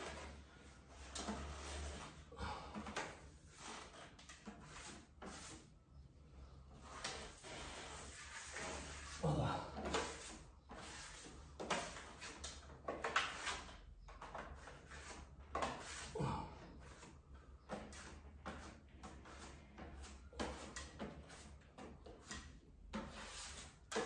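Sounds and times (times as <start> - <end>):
spatula scraping on wall: 0.0 - 24.0.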